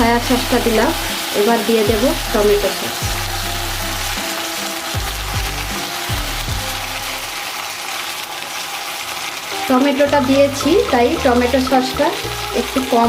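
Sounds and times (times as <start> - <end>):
masala sizzling in hot oil: 0.0 - 13.0.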